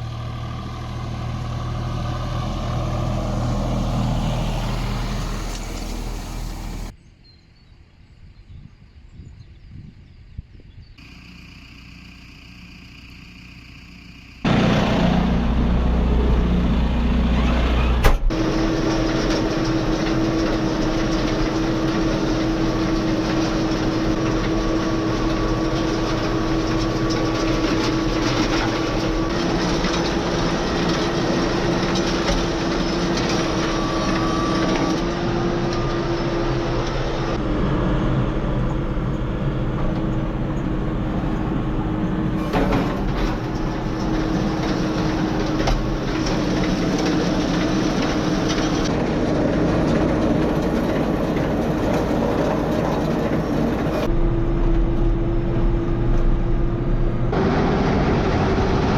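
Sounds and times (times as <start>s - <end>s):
engine running: 0.0s - 7.0s, 11.0s - 58.9s.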